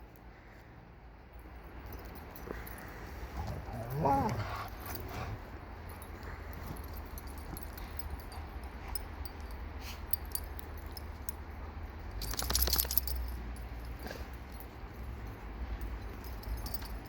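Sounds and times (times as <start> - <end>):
metal dog tags jingling: 1.4 - 17.0.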